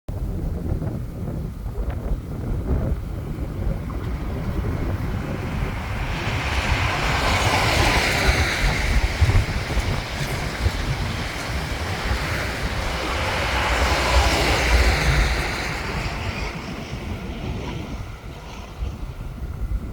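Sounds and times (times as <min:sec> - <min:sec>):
wind buffeting microphone: 0:00.1 - 0:19.9
diesel train passing: 0:00.6 - 0:19.9
train wheels on rails: 0:01.8 - 0:19.9.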